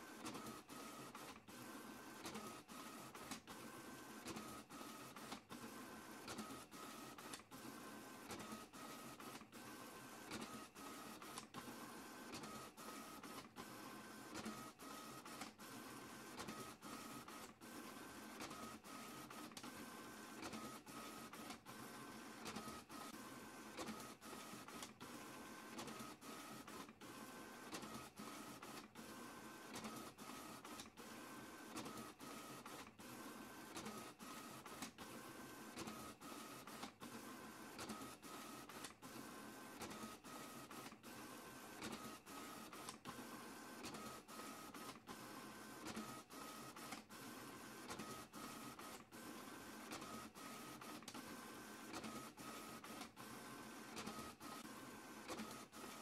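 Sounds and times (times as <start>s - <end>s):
faint printer tone: 0.0s - 56.0s
printer mechanical whir: 0.0s - 56.0s.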